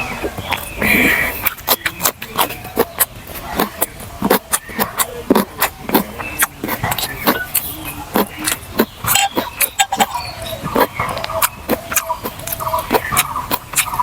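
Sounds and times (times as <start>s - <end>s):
wet chewing and lip smacks: 0.0s - 14.0s.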